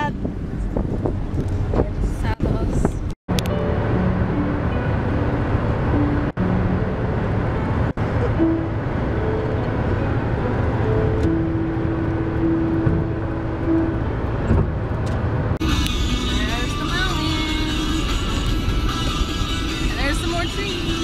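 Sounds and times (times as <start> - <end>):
road and engine noise in car cabin: 0.0 - 21.0.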